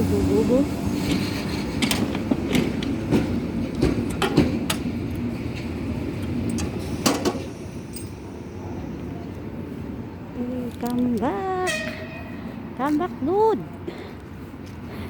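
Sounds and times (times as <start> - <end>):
railway carriage clanking: 0.0 - 15.0.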